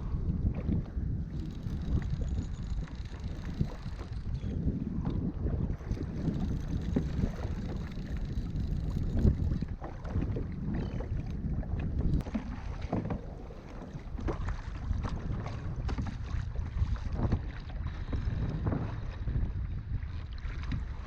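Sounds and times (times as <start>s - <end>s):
water splashing against kayak: 0.0s - 21.0s
wind buffeting microphone: 0.0s - 21.0s.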